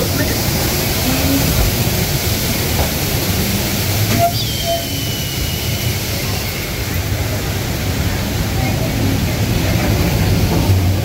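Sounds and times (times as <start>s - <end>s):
train cars rumbling on track: 0.0s - 11.0s.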